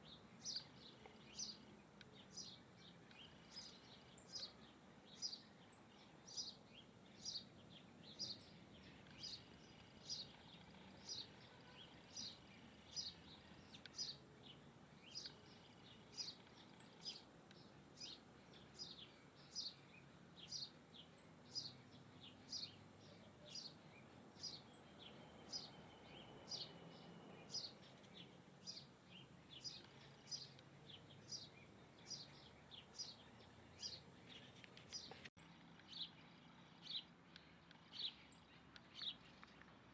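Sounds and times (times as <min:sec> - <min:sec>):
bird chirping: 0:00.0 - 0:39.9
faint outdoor background noise: 0:00.0 - 0:39.9.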